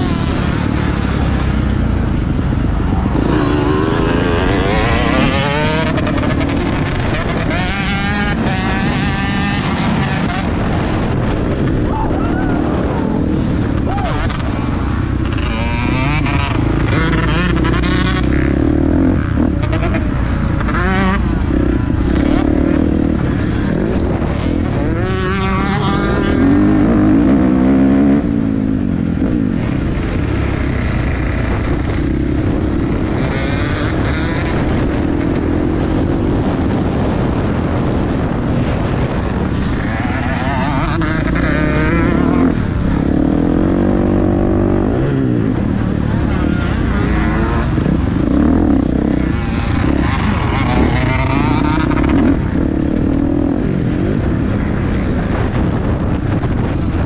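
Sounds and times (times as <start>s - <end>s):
motocross bike engine revving: 0.0s - 11.9s, 12.6s - 57.0s.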